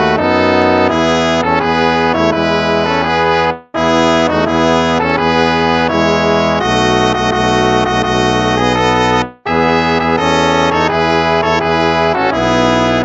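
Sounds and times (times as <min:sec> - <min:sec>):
brass playing a hymn: 0:00.0 - 0:13.0.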